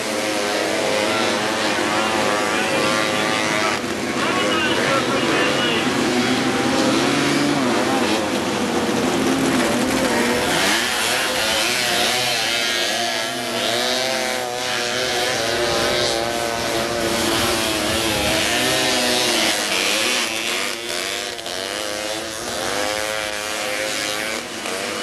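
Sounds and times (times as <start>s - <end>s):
buggy engines revving: 0.0s - 25.0s.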